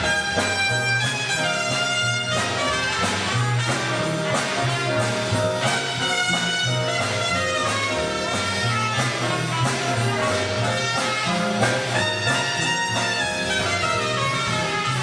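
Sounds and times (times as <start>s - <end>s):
bass line: 0.0s - 15.0s
saxophones: 0.0s - 15.0s
trumpets: 0.0s - 15.0s.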